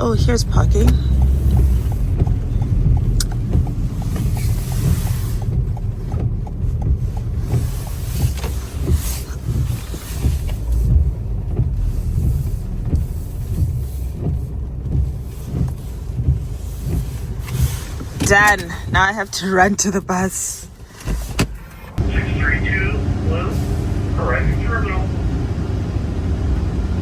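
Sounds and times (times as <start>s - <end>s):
car engine rumble from inside: 0.0s - 27.0s.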